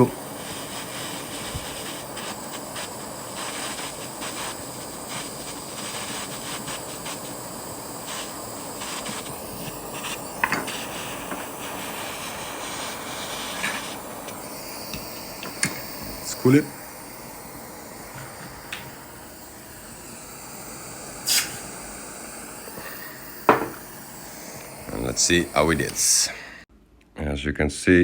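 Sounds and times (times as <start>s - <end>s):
torch flame hissing: 0.0s - 26.7s.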